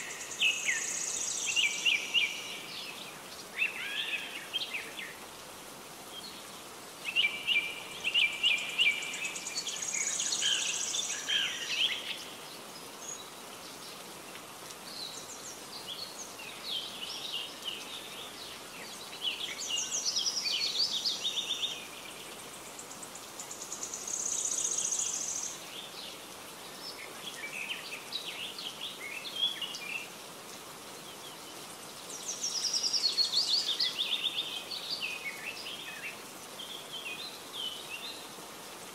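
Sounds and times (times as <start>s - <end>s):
songbirds singing: 0.0s - 38.9s
steady background hiss: 0.0s - 38.9s.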